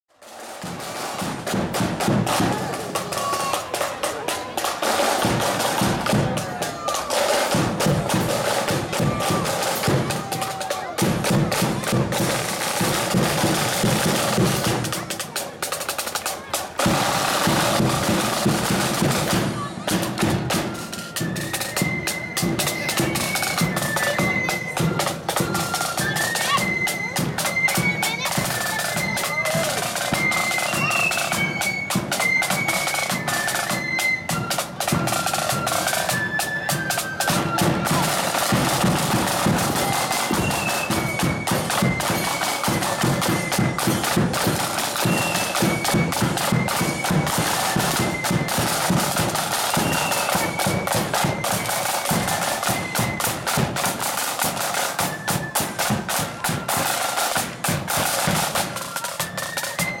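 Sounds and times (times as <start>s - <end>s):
snare drum rolls: 0.1s - 60.0s.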